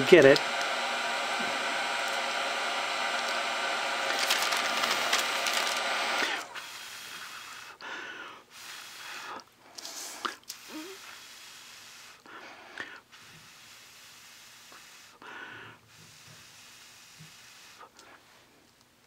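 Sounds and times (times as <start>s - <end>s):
heat gun fan whirring: 0.0s - 19.0s.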